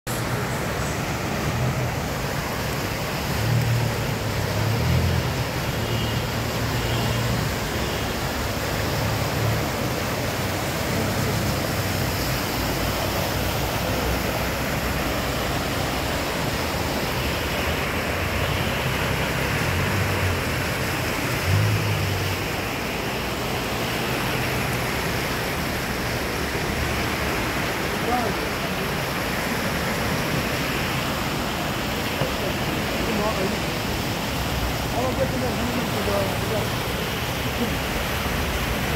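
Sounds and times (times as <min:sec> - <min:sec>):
cars driving through water: 0:00.1 - 0:38.9
floodwater rushing: 0:00.1 - 0:38.9.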